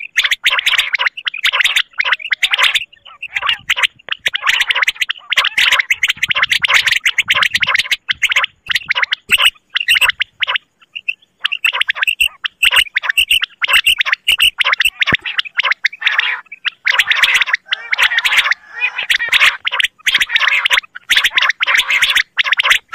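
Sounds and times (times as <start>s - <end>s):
quail calls: 0.0s - 22.9s.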